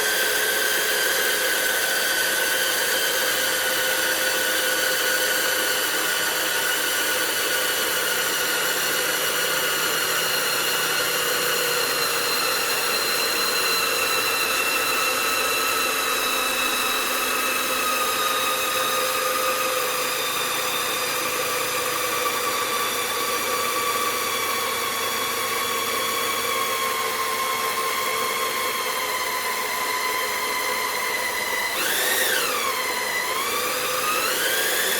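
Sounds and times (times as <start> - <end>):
small electric motor whining: 0.0 - 34.9.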